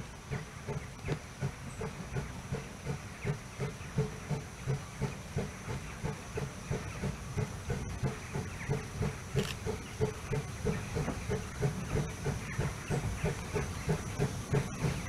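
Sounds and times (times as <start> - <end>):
steam hissing: 0.0 - 15.0
steam locomotive chuffing: 0.0 - 15.0.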